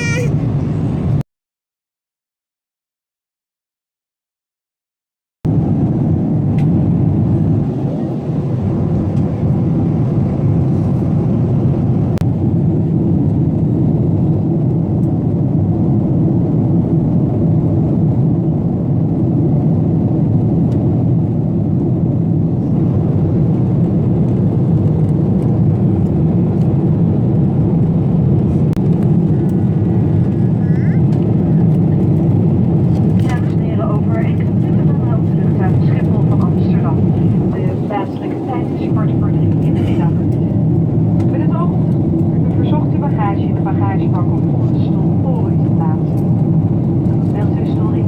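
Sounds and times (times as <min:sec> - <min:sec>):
airplane cabin rumble: 0:00.0 - 0:01.2, 0:05.5 - 0:48.0.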